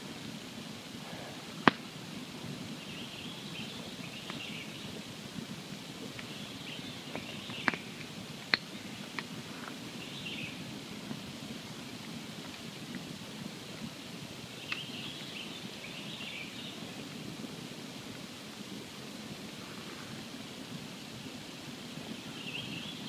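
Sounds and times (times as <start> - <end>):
campfire hissing: 0.0 - 23.0
fire crackles and pops: 0.0 - 23.0.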